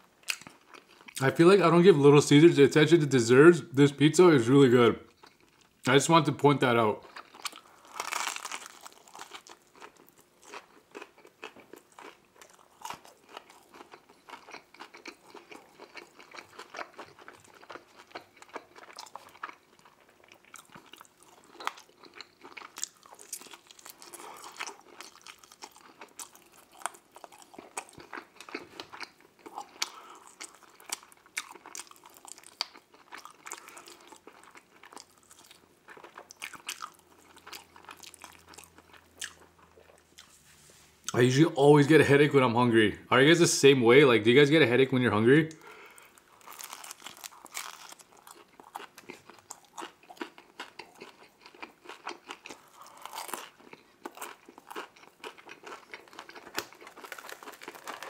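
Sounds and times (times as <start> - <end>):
person chewing food: 0.1 - 1.2, 5.1 - 5.9, 7.0 - 41.2, 45.5 - 58.0.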